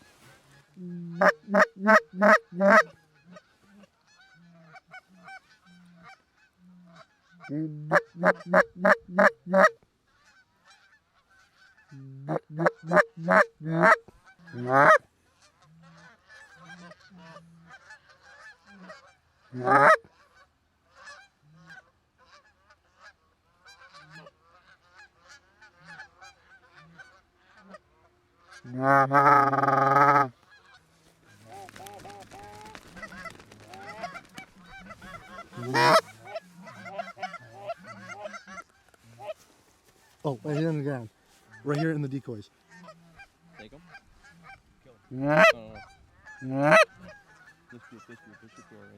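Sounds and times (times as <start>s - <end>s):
faint honking of a flock: 0.0s - 48.9s
geese honking loudly: 0.0s - 48.9s.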